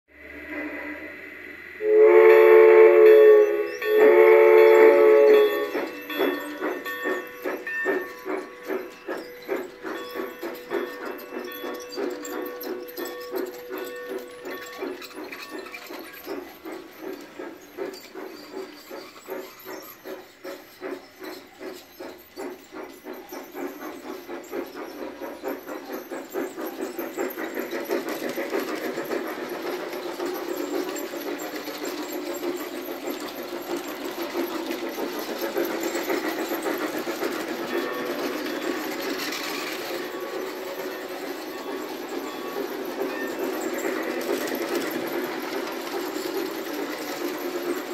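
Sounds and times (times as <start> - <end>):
model steam locomotive chuffing: 0.1 - 47.9
model train wheels on track: 0.1 - 47.9.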